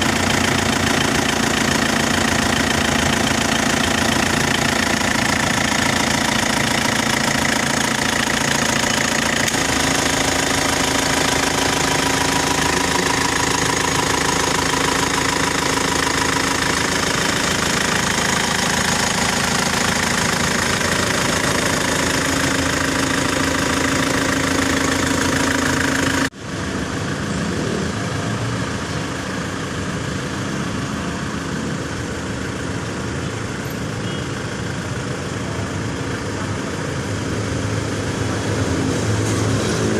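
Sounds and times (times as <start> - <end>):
car engine idling: 0.0 - 39.3.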